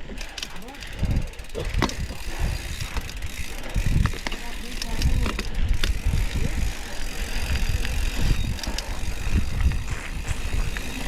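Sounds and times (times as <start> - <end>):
bike clicks and rattles: 0.0 - 11.0
bike tyre rumble on dirt: 0.0 - 11.0.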